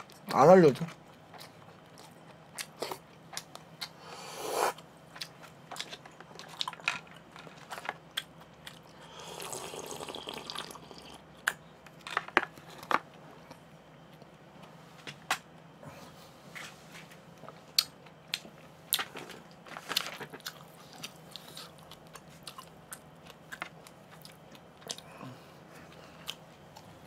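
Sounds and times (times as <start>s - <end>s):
person chewing food: 0.1s - 14.8s, 17.4s - 27.0s.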